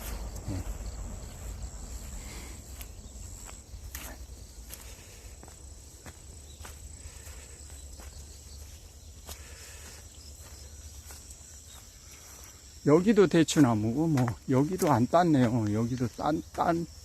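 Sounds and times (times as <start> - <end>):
crickets trilling: 0.0 - 17.0
soft footsteps: 0.0 - 17.0.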